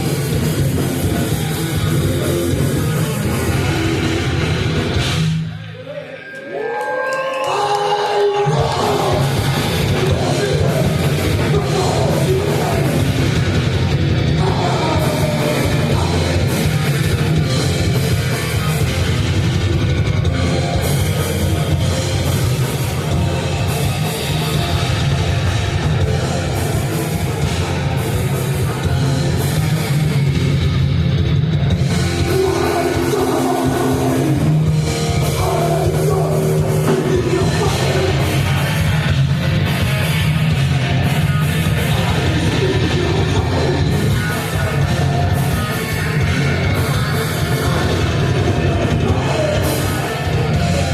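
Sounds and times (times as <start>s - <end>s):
heavy metal band playing live: 0.0s - 5.7s, 7.4s - 50.9s.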